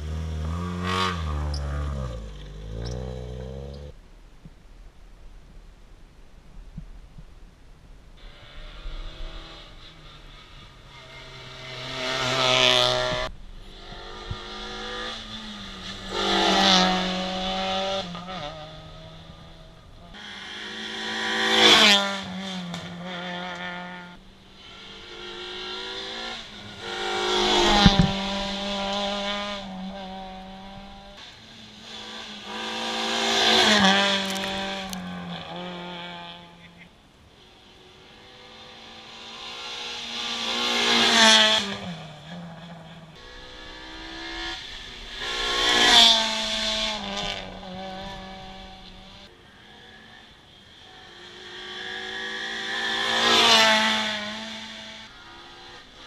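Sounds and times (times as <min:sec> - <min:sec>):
rally car passing at speed: 0:00.0 - 0:04.0, 0:08.2 - 0:36.7, 0:37.4 - 0:56.0.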